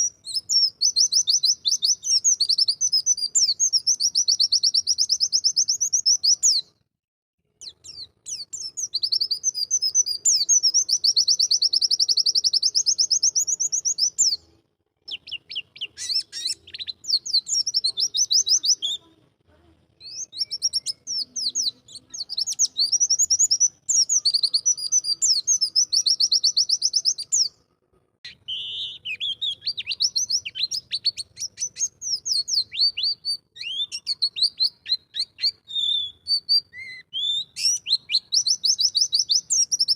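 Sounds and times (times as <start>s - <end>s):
bird singing high-pitched trills: 0.0s - 6.7s, 7.6s - 14.4s, 15.1s - 19.0s, 20.0s - 27.6s, 28.3s - 39.9s.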